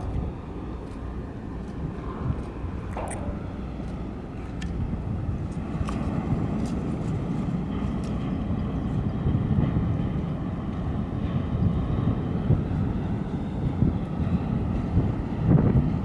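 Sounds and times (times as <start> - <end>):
ship engines rumbling: 0.0 - 16.0
wind buffeting microphone: 0.0 - 16.0.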